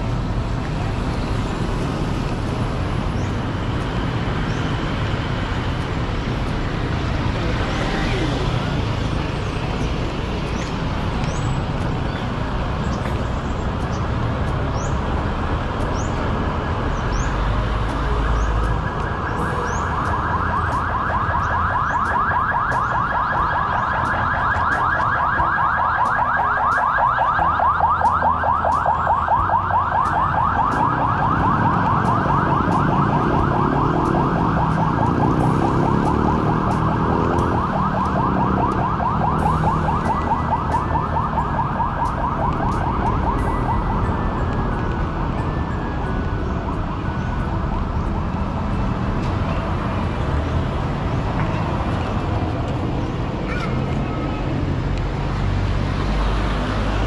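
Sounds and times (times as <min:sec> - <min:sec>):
street traffic: 0:00.0 - 0:57.0.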